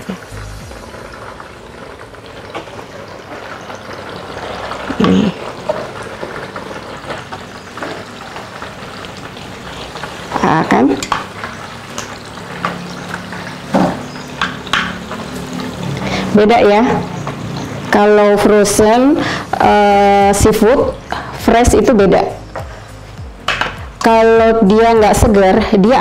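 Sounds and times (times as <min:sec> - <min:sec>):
prawns sizzling in hot oil: 0:00.0 - 0:26.0.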